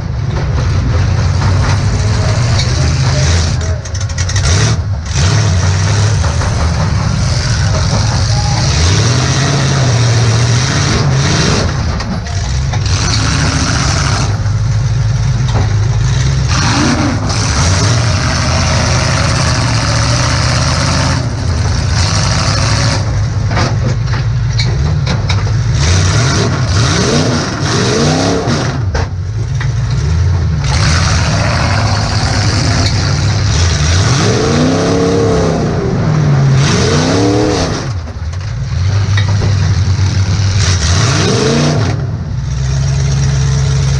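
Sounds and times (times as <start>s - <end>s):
metal bangs and clanks: 0.0s - 35.3s
car engine revving: 0.0s - 43.9s.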